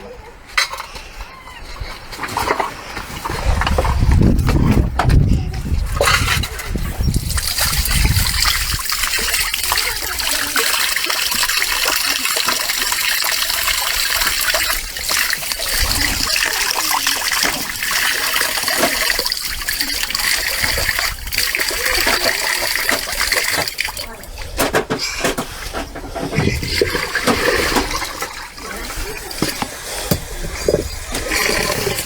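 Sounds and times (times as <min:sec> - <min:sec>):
water trickling and splashing: 0:02.1 - 0:32.0.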